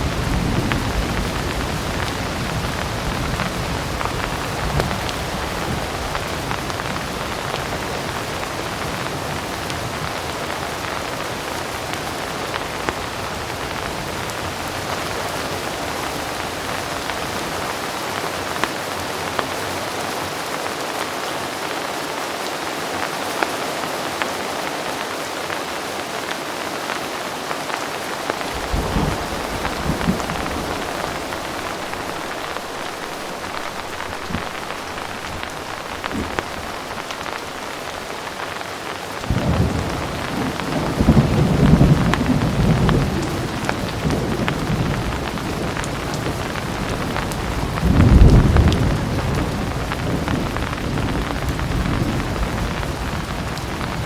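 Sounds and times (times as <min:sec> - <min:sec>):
thunder rumbling: 0:00.0 - 0:17.9, 0:28.3 - 0:54.0
heavy rain: 0:00.0 - 0:54.0.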